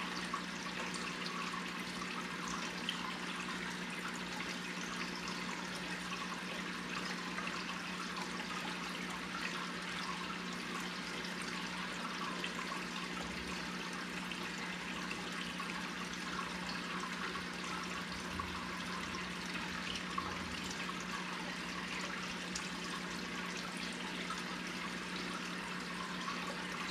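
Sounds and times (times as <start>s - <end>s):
aquarium water bubbling and trickling: 0.0s - 26.9s.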